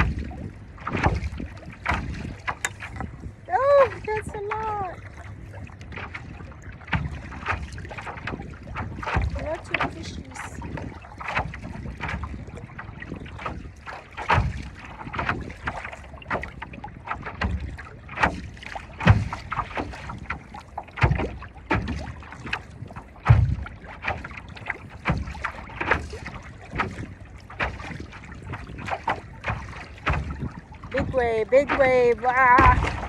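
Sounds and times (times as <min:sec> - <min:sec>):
water slapping against a paddleboard: 0:00.0 - 0:33.0
wind rumble on microphone: 0:00.0 - 0:33.0.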